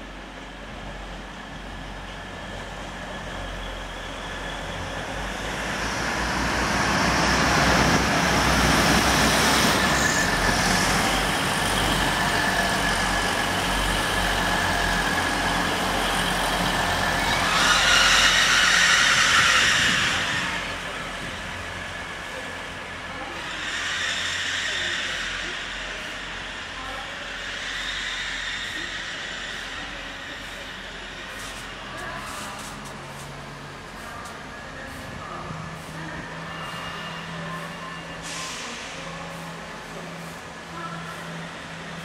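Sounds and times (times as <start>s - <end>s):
train engine and wheel noise: 0.0s - 42.0s
high-pitched train squeal: 2.4s - 33.4s, 35.5s - 39.6s.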